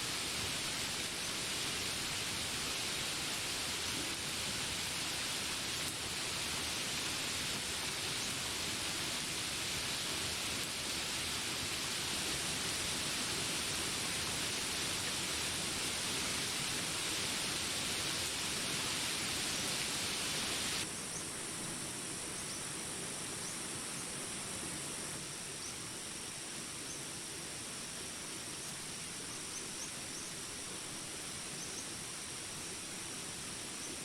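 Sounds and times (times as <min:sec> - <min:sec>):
insects droning: 0:00.0 - 0:34.0
steady rain hiss: 0:00.0 - 0:34.0.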